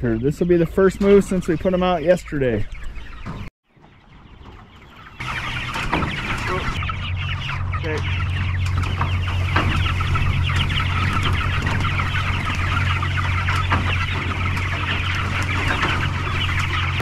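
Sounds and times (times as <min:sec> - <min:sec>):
chicks peeping and clucking: 0:00.0 - 0:17.0.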